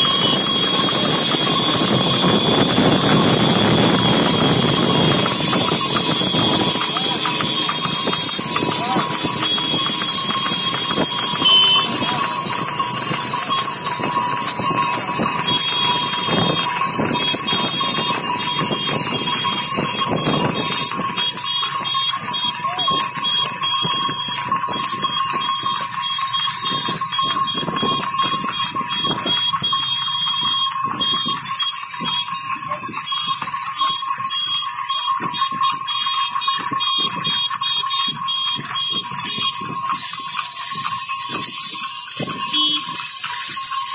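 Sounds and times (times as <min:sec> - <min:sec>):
horse hoofbeats on asphalt: 0:00.0 - 0:43.9
road noise: 0:00.0 - 0:43.9
wind: 0:00.0 - 0:43.9.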